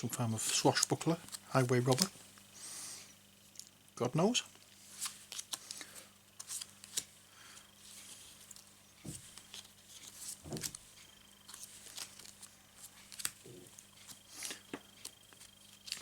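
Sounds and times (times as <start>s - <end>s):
cards being handled and flicked: 0.0s - 2.5s, 4.5s - 16.0s
faint steady hum: 0.0s - 16.0s.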